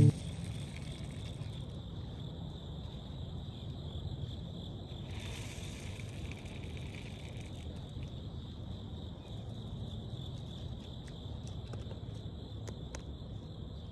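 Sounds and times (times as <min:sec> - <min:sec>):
insects chirring: 0:00.0 - 0:13.9.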